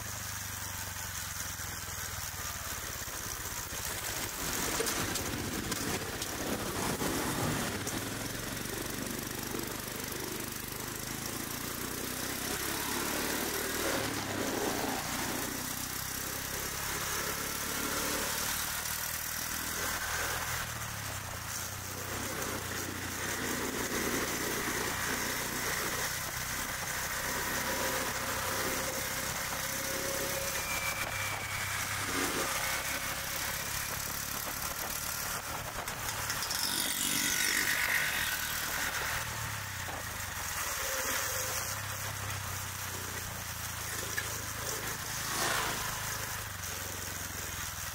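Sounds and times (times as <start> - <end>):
motor scooters driving past: 0.0 - 47.9.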